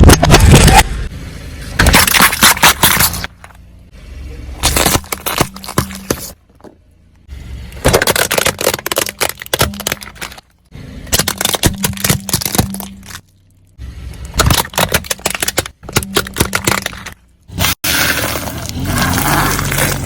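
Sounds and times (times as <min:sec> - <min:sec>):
objects crackling under car tyres: 0:00.0 - 0:03.9, 0:04.5 - 0:20.0
car low hum: 0:00.0 - 0:20.0.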